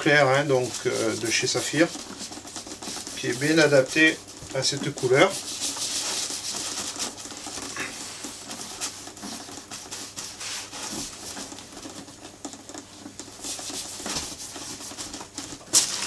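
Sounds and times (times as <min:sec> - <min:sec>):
glove rubbing leather: 0:00.0 - 0:15.8.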